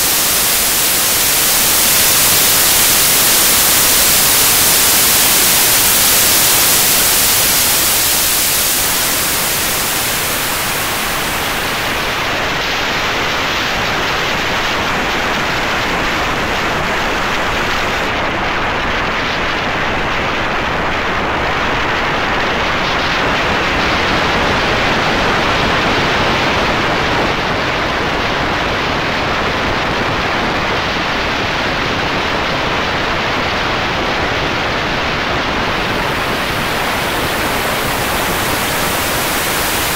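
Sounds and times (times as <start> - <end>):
electronic static hiss: 0.0 - 27.7, 29.5 - 39.9.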